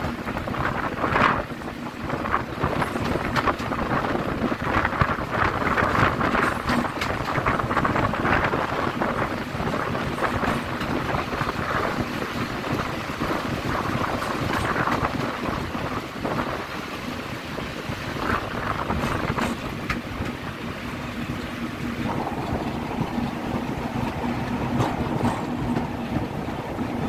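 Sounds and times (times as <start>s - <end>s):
diesel locomotive engine: 0.0s - 27.0s
wind buffeting microphone: 0.0s - 27.0s.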